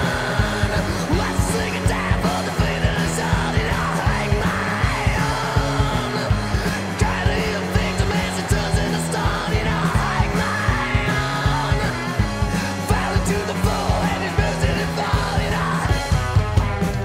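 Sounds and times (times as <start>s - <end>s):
shouted vocals: 0.0s - 16.2s
bass guitar: 0.0s - 17.0s
drum beat: 0.0s - 17.0s
rock band playing: 0.0s - 17.0s.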